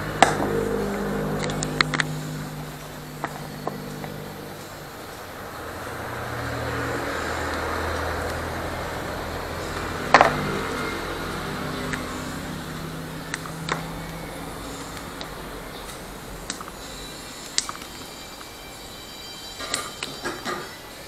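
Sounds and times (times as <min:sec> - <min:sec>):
low background rumble: 0:00.0 - 0:17.4.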